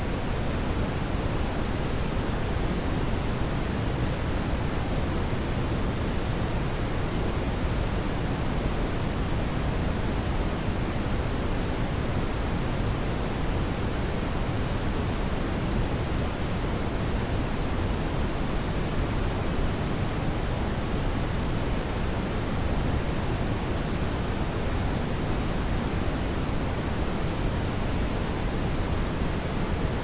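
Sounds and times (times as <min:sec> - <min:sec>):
brown noise hiss: 0:00.0 - 0:30.0.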